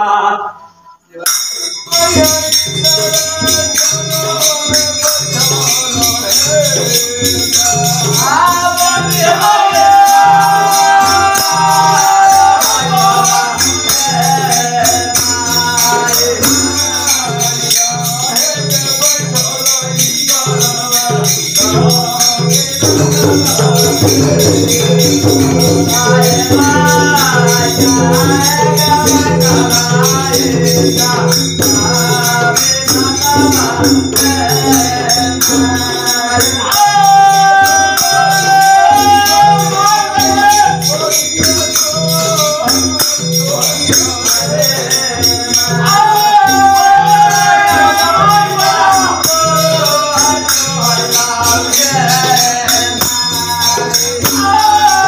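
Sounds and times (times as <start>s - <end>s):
person singing: 0.0s - 55.0s
small hand cymbals clashing: 1.3s - 55.0s
hand drum beating: 2.0s - 55.0s.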